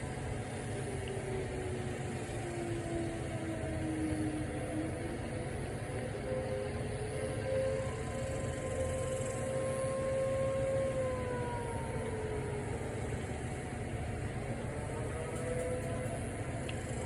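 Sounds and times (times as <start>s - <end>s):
low background rumble: 0.0s - 17.0s
warning siren: 0.0s - 17.0s.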